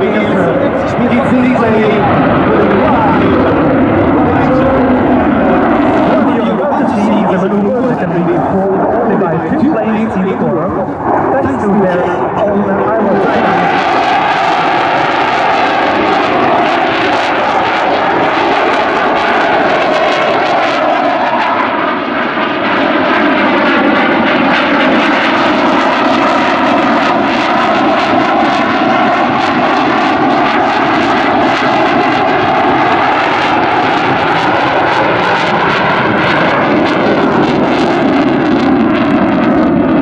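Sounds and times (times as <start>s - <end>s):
jet engines in afterburner: 0.0s - 40.0s.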